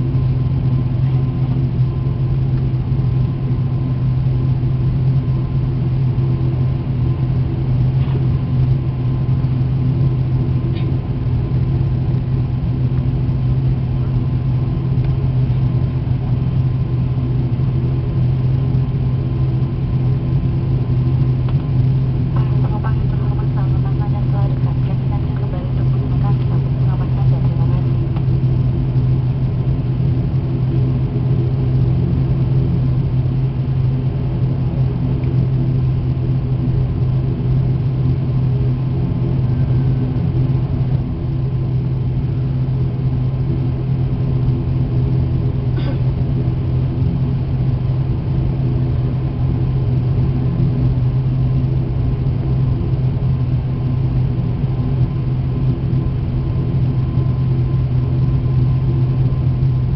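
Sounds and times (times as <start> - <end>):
turboprop engine droning: 0.0 - 59.9.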